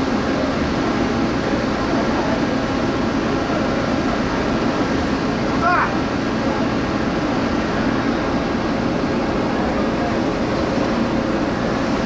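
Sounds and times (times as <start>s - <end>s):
heavy machinery rumbling: 0.0s - 12.0s.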